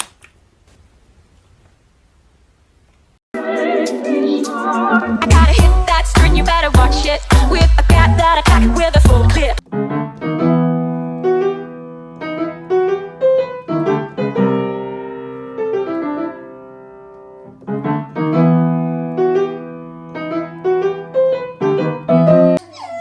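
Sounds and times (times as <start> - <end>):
piano music: 3.4 - 22.6.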